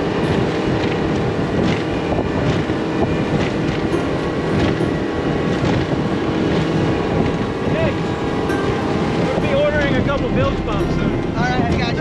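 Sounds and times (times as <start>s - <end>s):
outboard motor running: 0.0s - 12.0s
wind noise on microphone: 0.0s - 12.0s.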